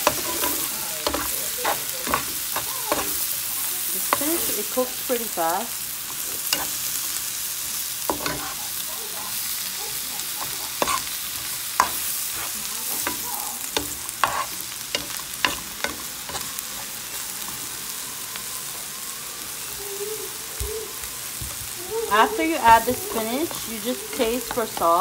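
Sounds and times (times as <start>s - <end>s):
spinach sizzling in hot oil: 0.0s - 25.0s.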